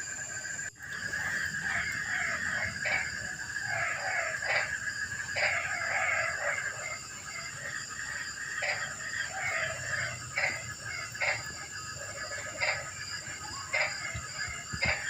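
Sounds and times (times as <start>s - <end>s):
chorus of frogs croaking: 0.0s - 15.0s.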